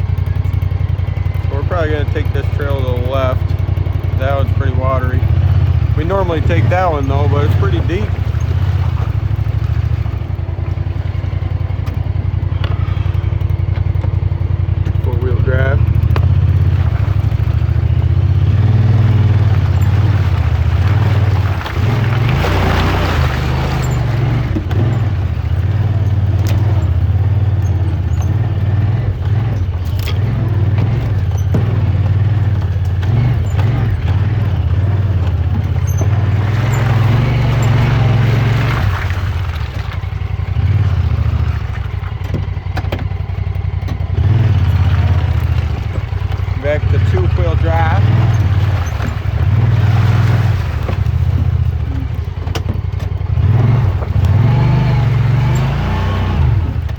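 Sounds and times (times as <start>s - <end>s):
rushes of noise and rattling: 0.0s - 56.9s
utility vehicle engine droning: 0.0s - 56.9s.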